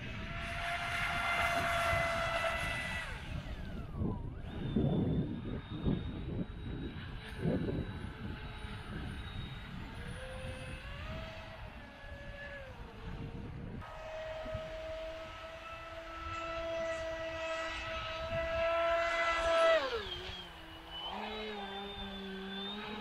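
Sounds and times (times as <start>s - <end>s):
rc boat motor whining: 0.0s - 23.0s
wind rumbling on microphone: 0.0s - 23.0s.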